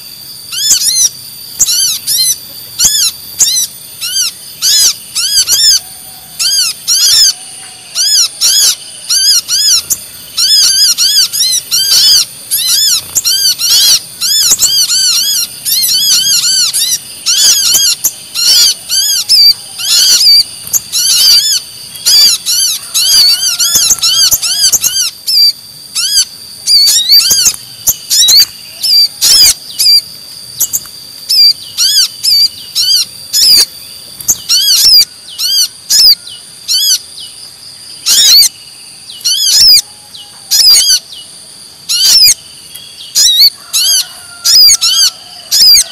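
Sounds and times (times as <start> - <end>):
rapid high bird chirps: 0.0 - 45.9.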